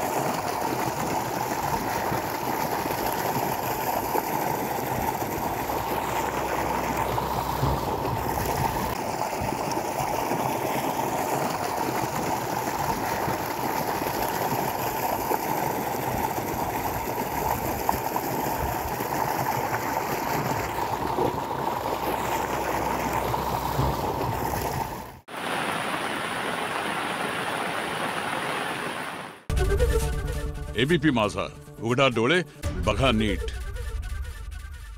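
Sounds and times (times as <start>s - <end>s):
floodwater rushing: 0.0s - 29.5s.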